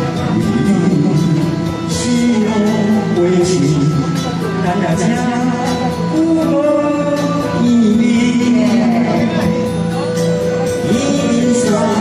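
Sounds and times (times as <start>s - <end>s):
person singing long sliding notes: 0.0s - 12.0s
steady musical accompaniment: 0.0s - 12.0s.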